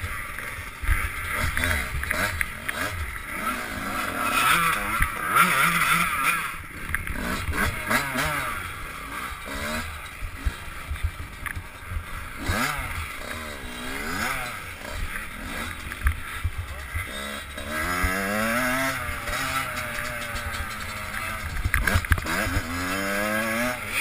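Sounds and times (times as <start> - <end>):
motorcycle engine revving: 0.0 - 24.0
motorcycle rattling over bumps: 0.0 - 24.0.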